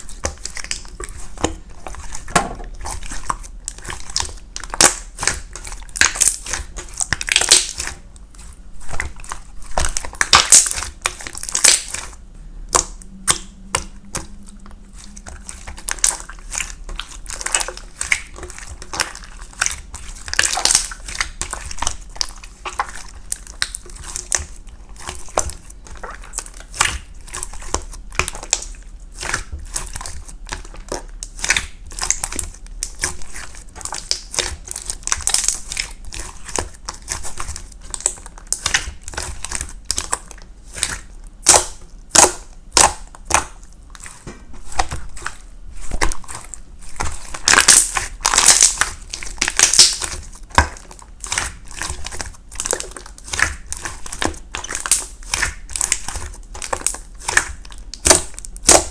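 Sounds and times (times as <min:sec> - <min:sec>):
irregular crinkling and crunching: 0:00.0 - 0:58.9.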